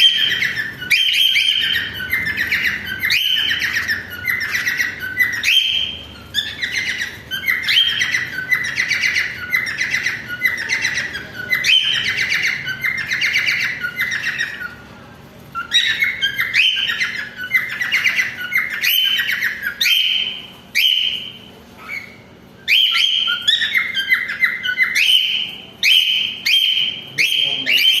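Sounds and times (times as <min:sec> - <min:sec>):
cockatiel chirping and whistling: 0:00.0 - 0:14.8, 0:15.5 - 0:28.0.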